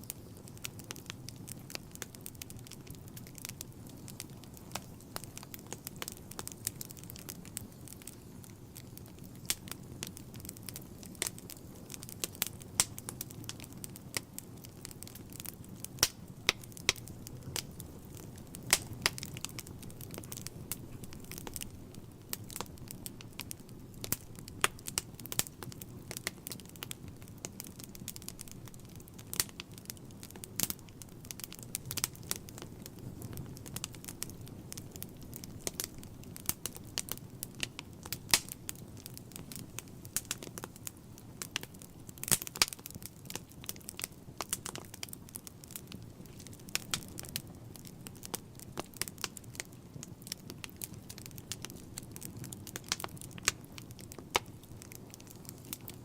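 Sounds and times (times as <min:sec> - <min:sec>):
flames burning: 0:00.0 - 0:56.0
wood fire crackling and popping: 0:00.0 - 0:56.0.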